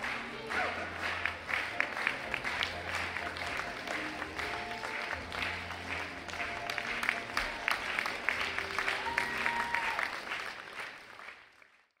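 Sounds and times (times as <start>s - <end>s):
music playing: 0.0s - 10.6s
audience applauding: 0.0s - 12.0s.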